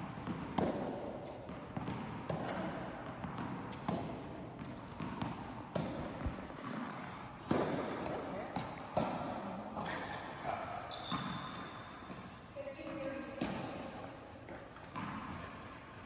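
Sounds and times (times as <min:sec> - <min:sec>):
tennis balls struck and bouncing: 0:00.0 - 0:15.8.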